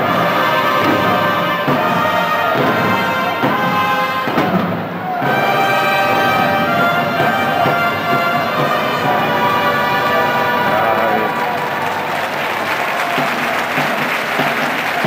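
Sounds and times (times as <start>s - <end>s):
brass-led music: 0.0s - 15.0s.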